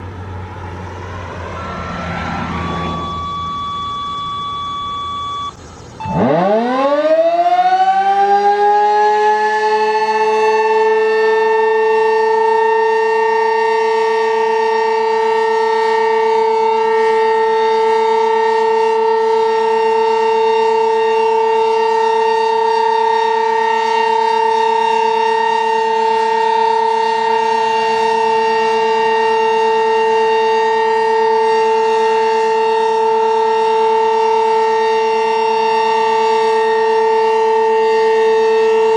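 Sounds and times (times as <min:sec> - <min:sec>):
outdoor warning siren wailing: 0:00.0 - 0:38.9.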